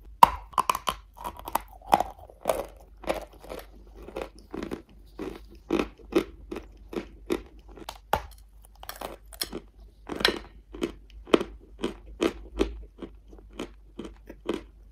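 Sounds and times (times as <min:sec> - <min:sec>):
chalk being chewed crunching: 0:00.4 - 0:14.8.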